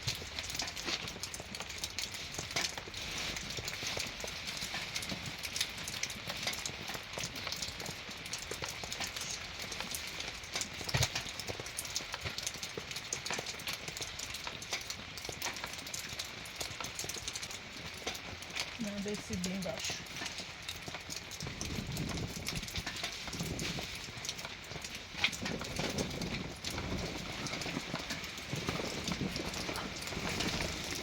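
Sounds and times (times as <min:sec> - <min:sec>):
rain patter: 0:00.0 - 0:31.0.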